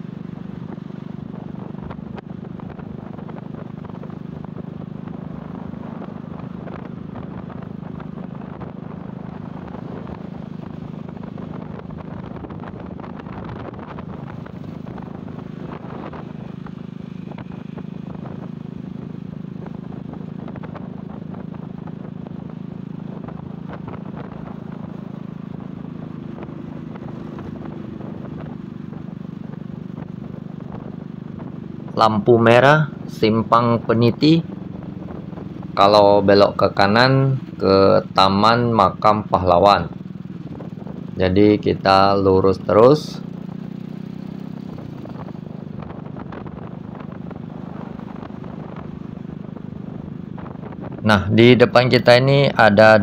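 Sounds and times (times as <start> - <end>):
motorcycle engine cruising: 0.0 - 53.0
road noise: 0.0 - 53.0.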